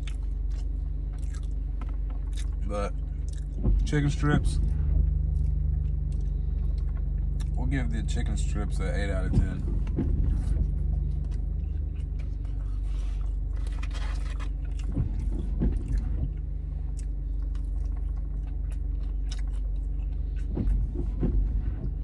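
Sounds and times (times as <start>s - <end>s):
man chewing crunchy food: 0.0s - 7.6s, 9.7s - 21.3s
car engine idling: 0.0s - 22.0s.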